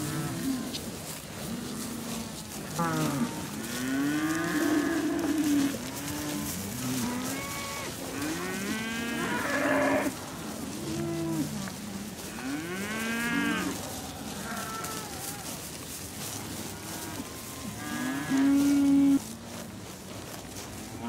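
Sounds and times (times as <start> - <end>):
cows mooing: 0.0 - 0.8, 1.4 - 19.3.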